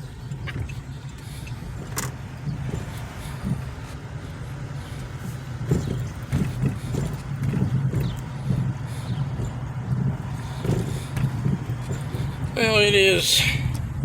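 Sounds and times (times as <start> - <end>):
car engine and road noise: 0.0 - 14.0
low knocks over bumps: 0.2 - 12.6.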